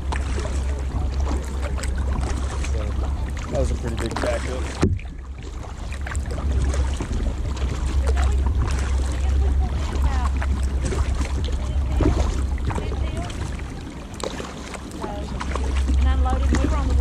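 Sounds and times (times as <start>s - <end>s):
paddle splashes and knocks: 0.0s - 17.0s
wind rumble on microphone: 0.0s - 17.0s.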